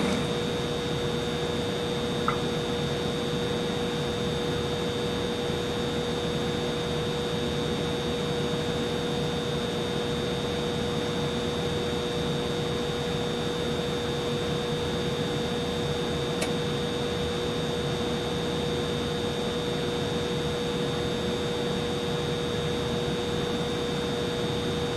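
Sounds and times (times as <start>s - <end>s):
humidifier hum with high whine: 0.0s - 24.9s.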